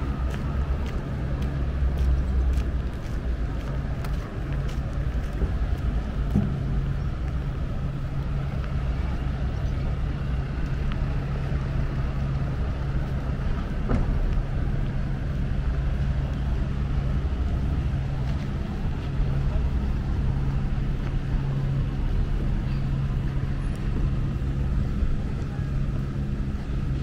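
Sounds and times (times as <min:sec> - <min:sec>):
low engine hum: 0:00.0 - 0:27.0
outdoor background noise: 0:00.0 - 0:27.0.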